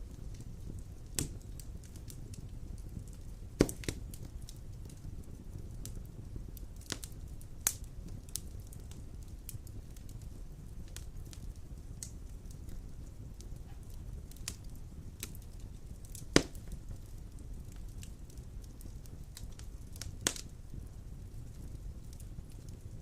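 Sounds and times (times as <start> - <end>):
sharp pops of fire: 0.0 - 23.0
wood fire crackling: 0.0 - 23.0.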